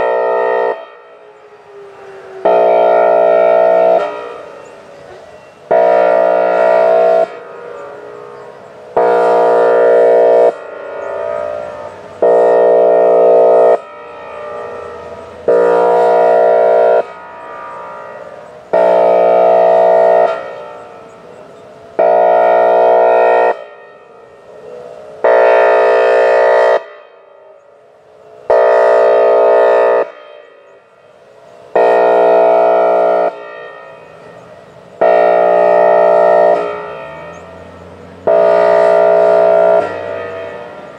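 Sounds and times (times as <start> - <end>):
warning siren horn blasts: 0.0 - 40.9.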